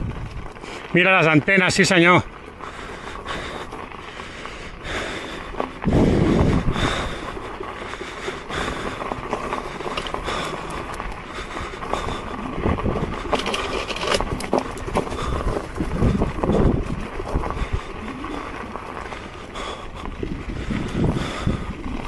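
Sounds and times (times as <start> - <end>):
wind noise on microphone: 0.0 - 0.8, 4.7 - 22.0
tyre rumble over rough ground: 0.0 - 22.0.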